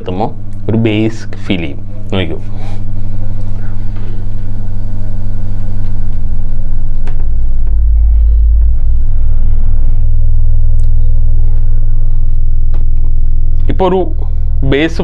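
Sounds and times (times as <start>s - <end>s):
low sine tone rumble: 0.0s - 15.0s.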